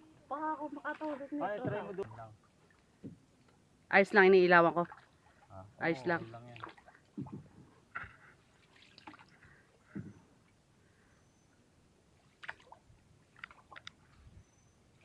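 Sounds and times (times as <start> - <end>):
faint paddle water splashes: 0.0 - 15.0.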